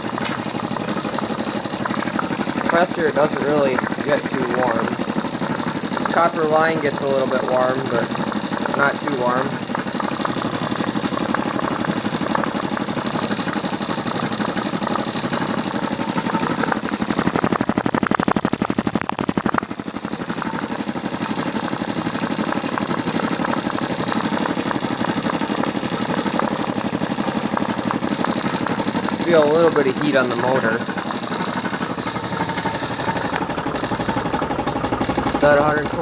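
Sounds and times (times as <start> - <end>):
air compressor running: 0.0 - 36.0.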